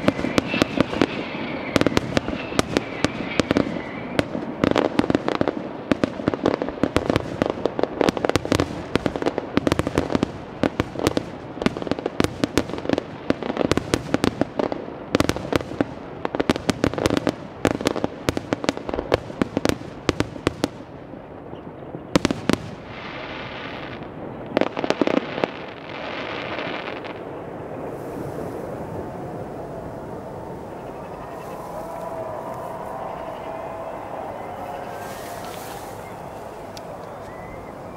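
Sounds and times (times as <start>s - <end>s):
fireworks bangs and crackle: 0.0s - 37.9s.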